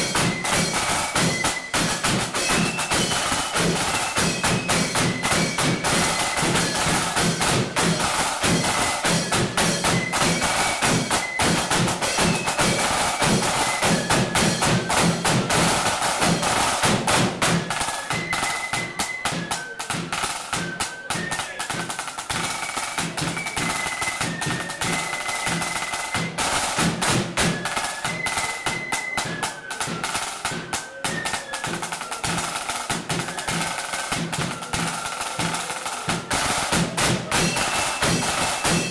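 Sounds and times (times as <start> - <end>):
flute melody: 0.0 - 38.9
rattling snare drums: 0.0 - 38.9.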